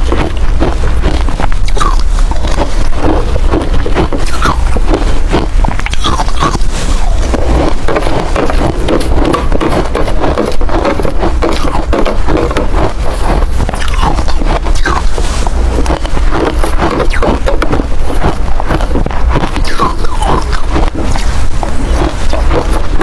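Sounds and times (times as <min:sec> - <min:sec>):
ice crunching between teeth: 0:00.0 - 0:23.0.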